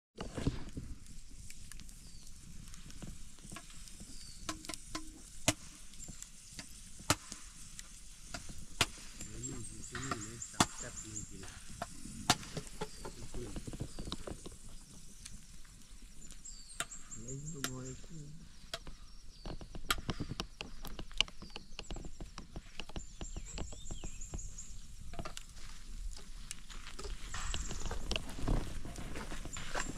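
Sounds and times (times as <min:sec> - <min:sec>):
campfire crackling: 0:00.2 - 0:29.9.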